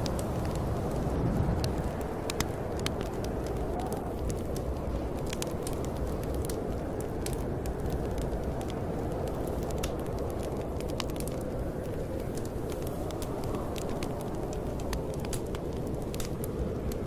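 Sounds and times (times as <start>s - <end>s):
snowstorm wind rushing: 0.0s - 17.0s
wood fire crackling: 0.0s - 17.0s.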